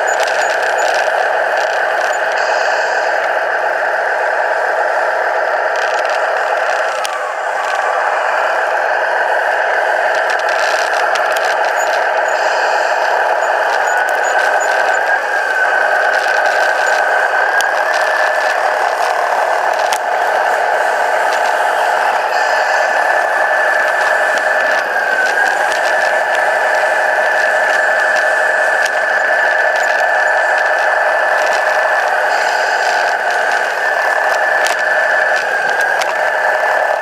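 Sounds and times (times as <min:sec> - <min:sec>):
toy truck motor running: 0:00.0 - 0:37.0.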